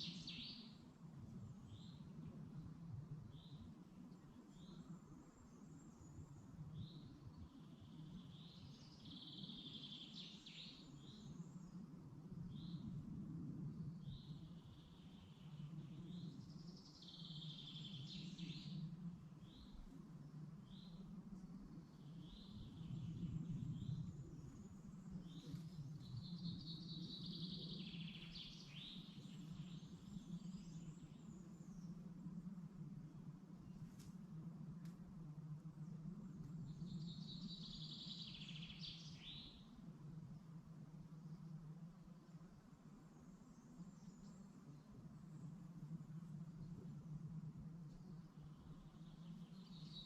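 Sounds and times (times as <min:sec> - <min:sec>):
songbirds chirping: 0:00.0 - 0:50.0.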